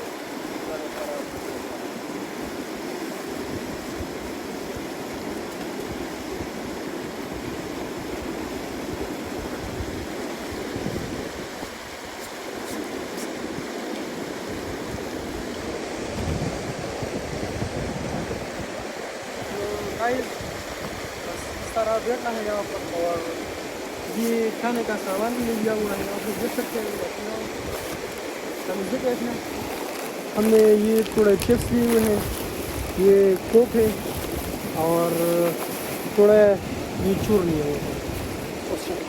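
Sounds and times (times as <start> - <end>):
flowing water rushing: 0.0 - 39.0.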